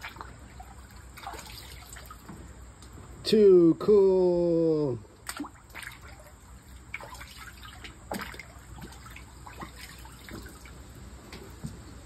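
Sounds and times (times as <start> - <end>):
water dripping and trickling: 0.0 - 3.2, 5.1 - 12.0.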